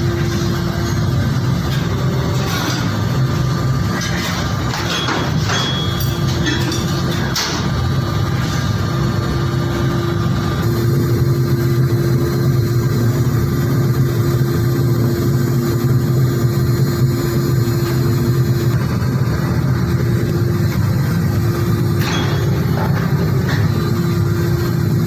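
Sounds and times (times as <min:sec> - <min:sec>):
low motor hum: 0:00.0 - 0:04.8, 0:06.0 - 0:25.0.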